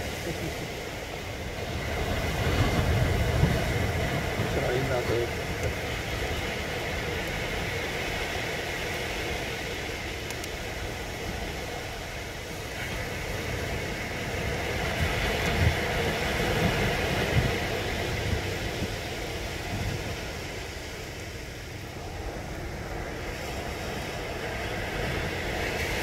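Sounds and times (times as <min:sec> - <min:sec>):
sea waves breaking: 0:00.0 - 0:26.0
wind buffeting microphone: 0:00.0 - 0:26.0.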